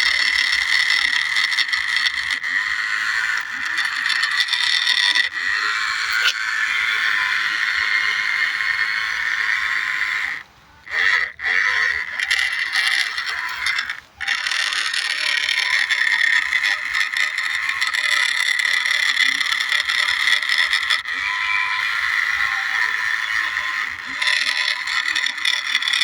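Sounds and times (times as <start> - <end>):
gear rattle and scraping: 0.0 - 6.4, 10.3 - 26.0
toy tractor motor whining: 0.0 - 26.0.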